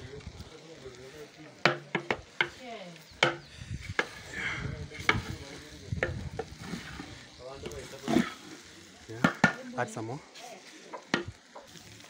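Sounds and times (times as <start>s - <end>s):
rice sizzling: 0.0s - 12.0s.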